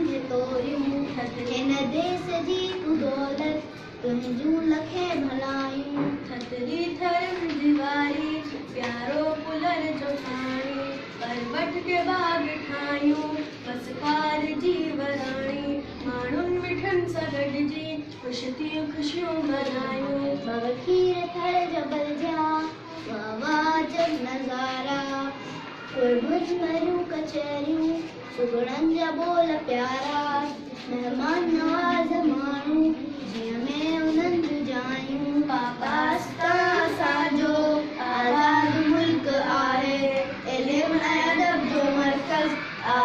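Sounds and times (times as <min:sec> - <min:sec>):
girls singing unaccompanied: 0:00.0 - 0:43.0.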